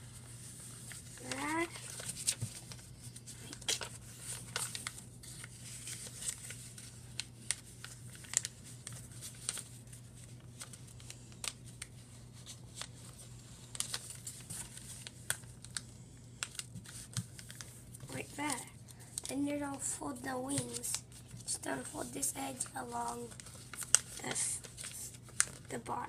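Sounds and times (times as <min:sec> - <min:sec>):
paper crinkling and rustling: 0:00.0 - 0:26.0.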